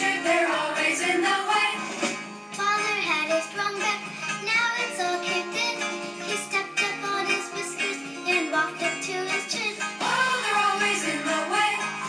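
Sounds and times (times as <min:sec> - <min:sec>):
song with vocals and beat: 0:00.0 - 0:12.0.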